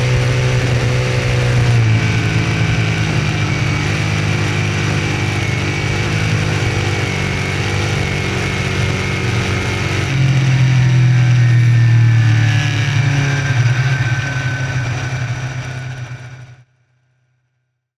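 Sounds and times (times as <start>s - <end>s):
race car engine running hard: 0.0s - 16.6s.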